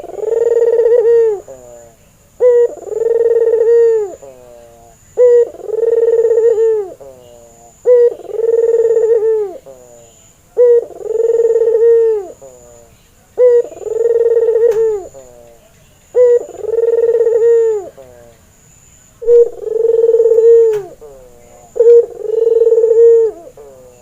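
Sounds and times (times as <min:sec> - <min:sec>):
dove cooing: 0:00.0 - 0:18.4, 0:19.2 - 0:24.0.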